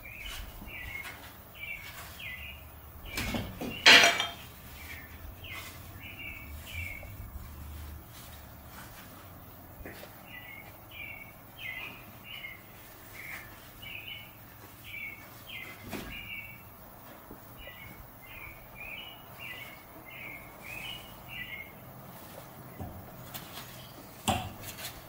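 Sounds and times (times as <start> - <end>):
bird chirping: 0.0 - 7.5, 9.8 - 16.8, 17.5 - 24.2.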